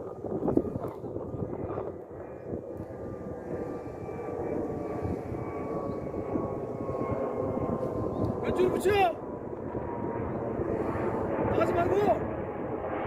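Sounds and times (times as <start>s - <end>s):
propeller engine drone: 0.0s - 13.0s
wind noise: 0.0s - 13.0s.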